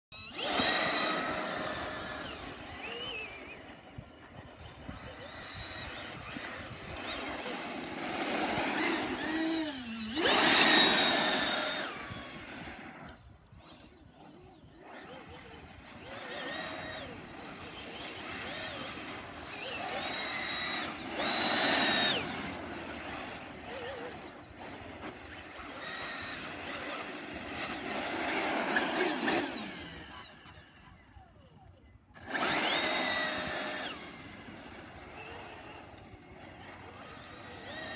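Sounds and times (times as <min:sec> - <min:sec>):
electric ducted fan whine: 0:00.2 - 0:37.9.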